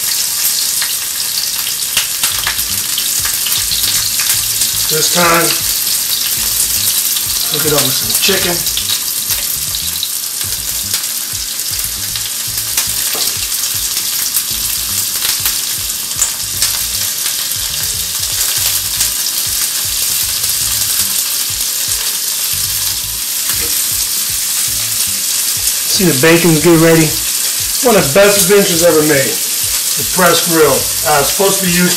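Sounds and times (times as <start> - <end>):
food sizzling in hot oil: 0.0 - 31.9.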